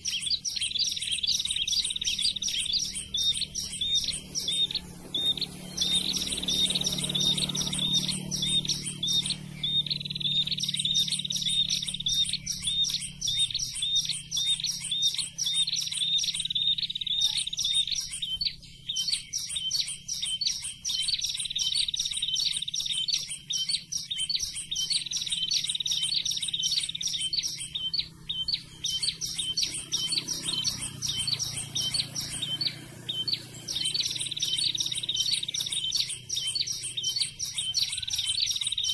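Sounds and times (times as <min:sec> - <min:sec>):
bird song of sharp chirps: 0:00.0 - 0:38.9.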